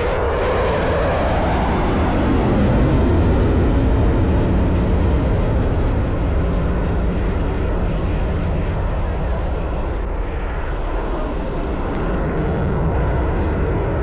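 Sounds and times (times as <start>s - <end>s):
aircraft engine roar: 0.0s - 14.0s.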